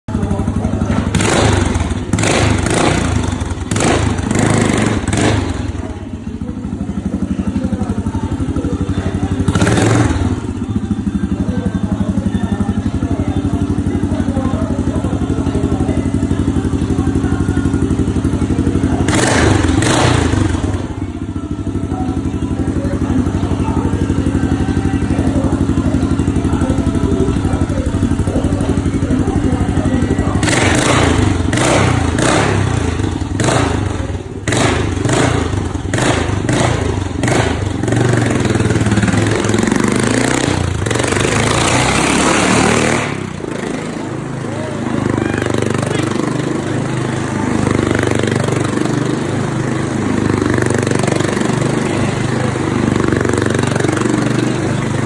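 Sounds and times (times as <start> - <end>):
small motorcycle engine running: 0.1 - 55.0.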